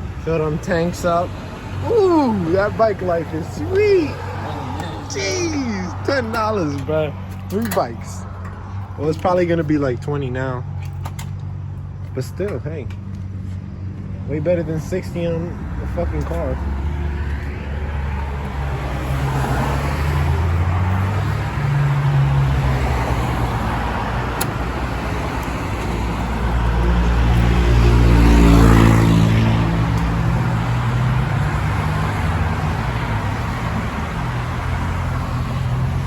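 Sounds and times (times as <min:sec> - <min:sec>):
road noise: 0:00.0 - 0:36.0.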